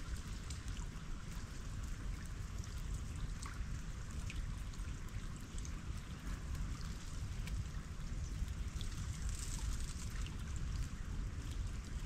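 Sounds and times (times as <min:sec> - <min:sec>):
melting ice dripping into water: 0:00.0 - 0:12.0.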